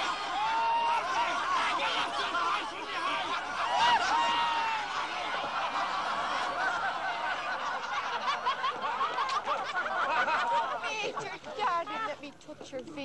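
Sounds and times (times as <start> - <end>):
group of people laughing: 0.0 - 12.3.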